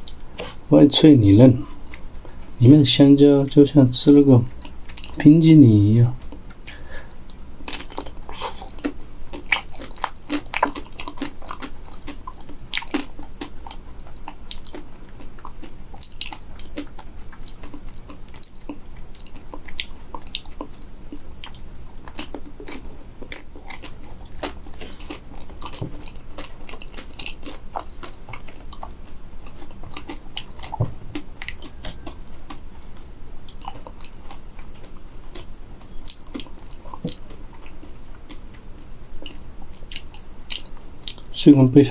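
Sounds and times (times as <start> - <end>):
crunchy biting and chewing: 6.3 - 41.4.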